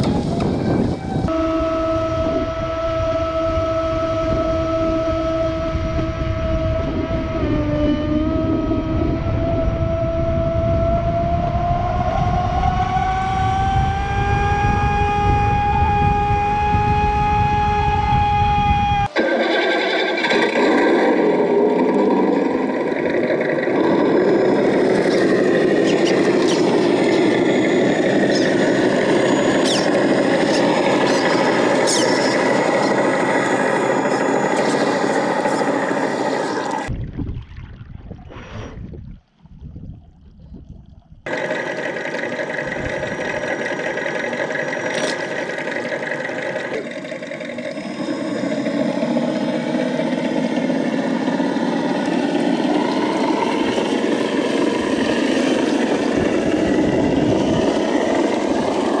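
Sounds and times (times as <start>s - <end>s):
electric motor whine: 0.0s - 36.9s, 41.3s - 59.0s.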